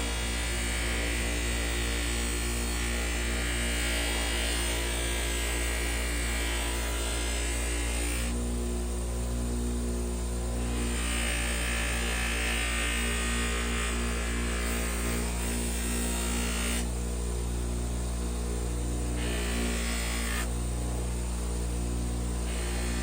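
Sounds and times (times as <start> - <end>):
power tool motor humming: 0.0 - 8.6, 10.2 - 23.0.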